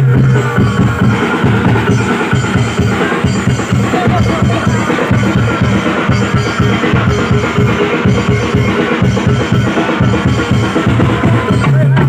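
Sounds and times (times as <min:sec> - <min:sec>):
drums beating fast rhythm: 0:00.0 - 0:12.0
held melodic tones: 0:00.0 - 0:12.0.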